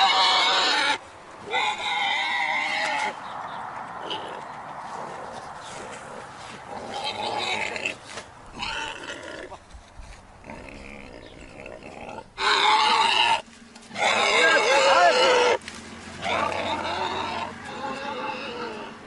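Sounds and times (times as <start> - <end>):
pig grunting and squealing: 0.0 - 3.2, 5.1 - 9.6, 10.4 - 15.6, 16.2 - 19.0.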